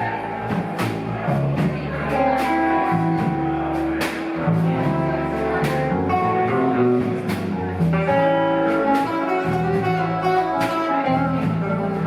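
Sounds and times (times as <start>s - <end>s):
bass line: 0.0s - 12.0s
drum and cymbal hits: 0.0s - 12.0s
guitar lines: 0.0s - 12.0s.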